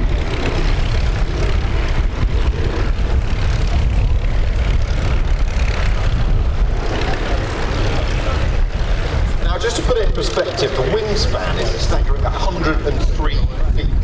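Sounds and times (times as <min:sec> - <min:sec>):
propeller plane engines droning: 0:00.0 - 0:14.0.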